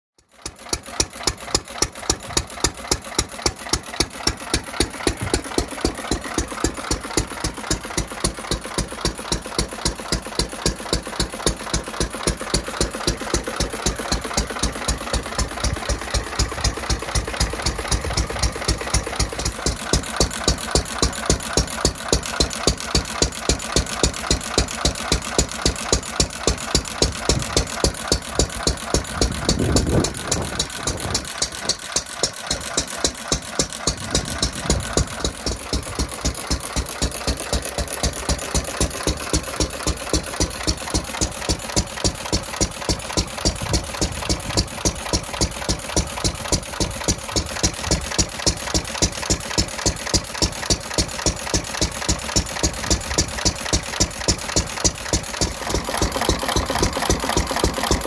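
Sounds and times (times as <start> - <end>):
stationary petrol engine running: 0.1 - 58.0.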